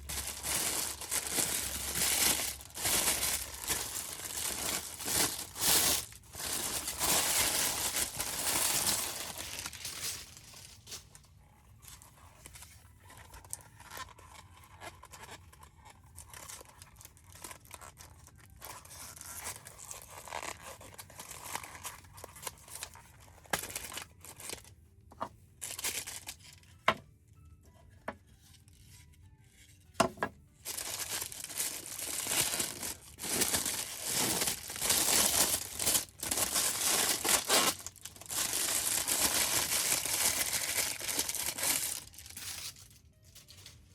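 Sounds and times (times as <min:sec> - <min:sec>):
plastic packaging tearing and crinkling: 0:00.0 - 0:24.7, 0:25.6 - 0:26.6, 0:30.6 - 0:43.9.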